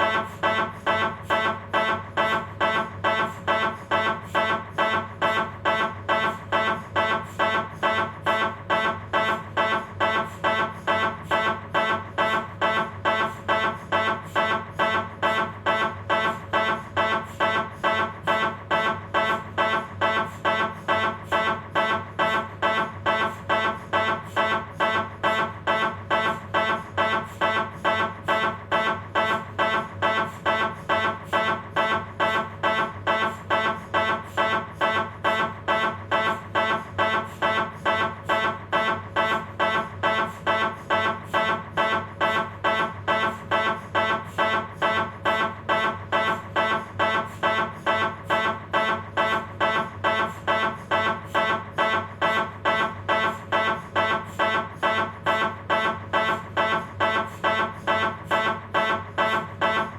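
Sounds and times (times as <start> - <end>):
mri scanner buzzing pulses: 0.0 - 59.9.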